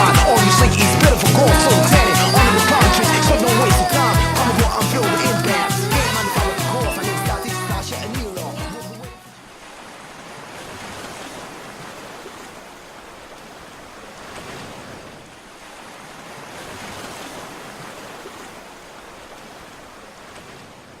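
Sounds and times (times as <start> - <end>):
waves washing onto shore: 0.0 - 8.3, 9.2 - 21.0.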